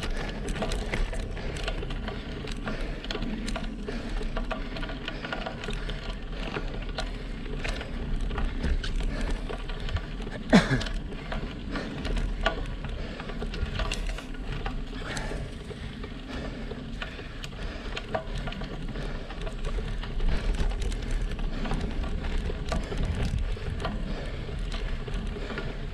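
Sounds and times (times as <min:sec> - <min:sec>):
bike clicks and rattles: 0:00.0 - 0:25.9
bike tyres crackling over grit: 0:00.0 - 0:25.9.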